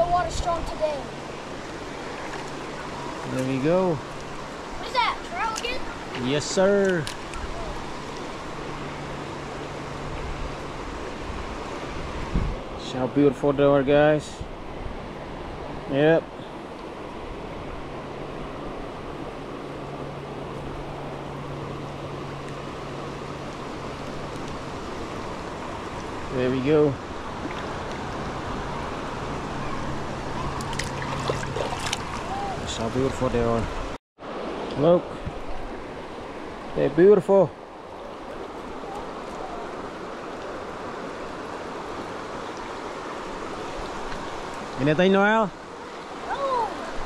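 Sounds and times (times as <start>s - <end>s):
stream rushing over rocks: 0.0s - 14.2s, 16.9s - 47.0s.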